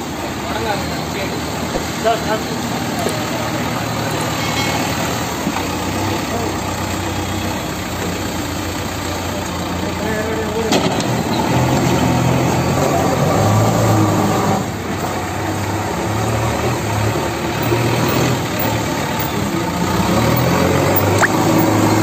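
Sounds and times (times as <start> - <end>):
backhoe diesel engine under load: 0.0 - 22.0.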